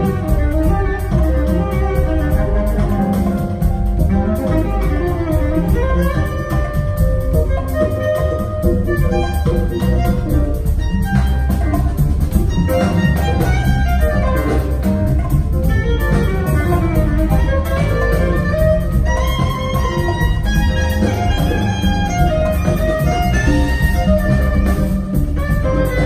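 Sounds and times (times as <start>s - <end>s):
bass: 0.0s - 26.0s
drums: 0.0s - 26.0s.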